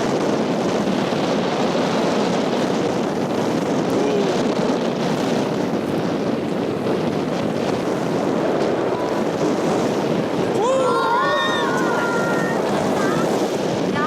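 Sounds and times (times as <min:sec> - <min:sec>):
boat engine and water rushing: 0:00.0 - 0:14.0
wind buffeting microphone: 0:00.0 - 0:14.0.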